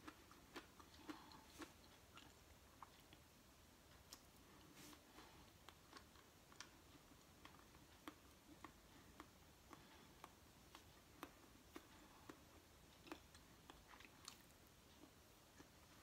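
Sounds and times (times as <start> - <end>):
mouth clicks and smacks chewing: 0.0 - 3.3, 5.5 - 16.0.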